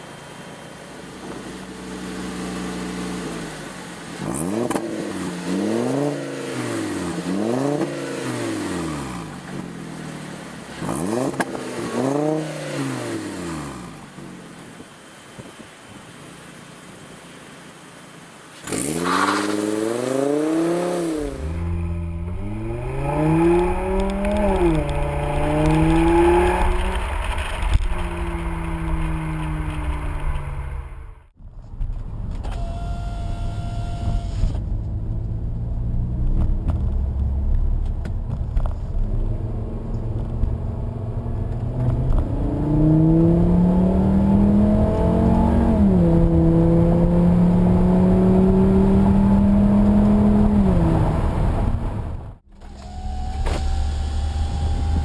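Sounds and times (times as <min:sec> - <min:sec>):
car engine revving: 0:01.0 - 0:14.5, 0:18.6 - 0:31.3, 0:32.8 - 0:55.0.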